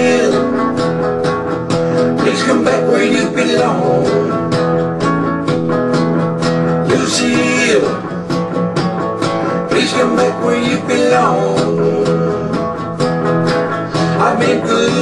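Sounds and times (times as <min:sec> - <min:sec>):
rockabilly band with guitar: 0:00.0 - 0:15.0.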